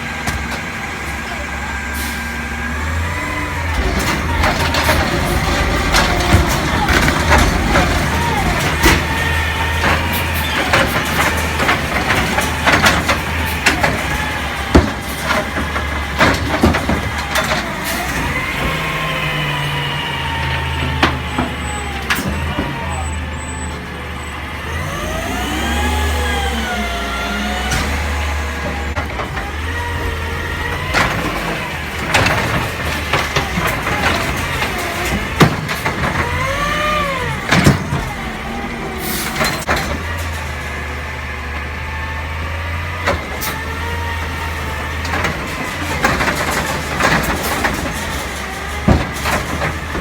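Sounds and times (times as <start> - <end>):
diesel engine running: 0.0 - 50.0
metallic clanks and knocks: 3.6 - 23.0, 27.5 - 40.9, 42.6 - 50.0.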